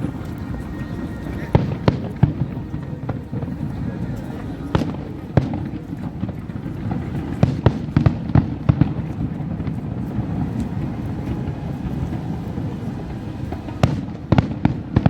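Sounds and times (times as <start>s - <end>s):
continuous low rumble: 0.0s - 15.0s
fireworks bangs: 0.0s - 15.0s.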